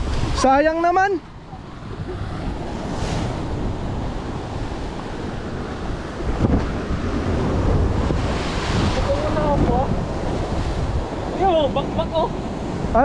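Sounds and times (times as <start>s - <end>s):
surf breaking on rocks: 0.0s - 13.0s
wind buffeting microphone: 0.0s - 13.0s.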